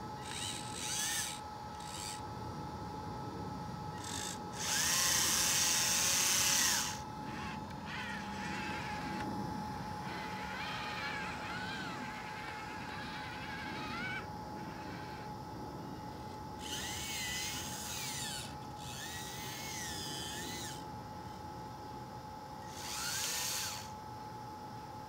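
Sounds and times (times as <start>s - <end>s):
small electric motors whining: 0.0s - 21.4s, 22.6s - 24.0s.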